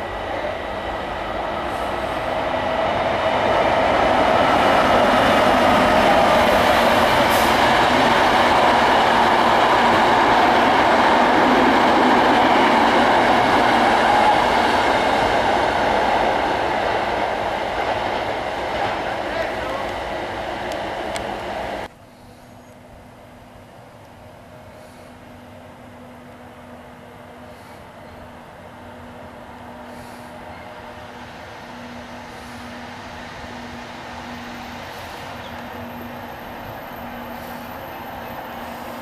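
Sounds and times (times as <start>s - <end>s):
train wheels rumbling on rails: 0.0s - 22.9s, 24.5s - 39.0s.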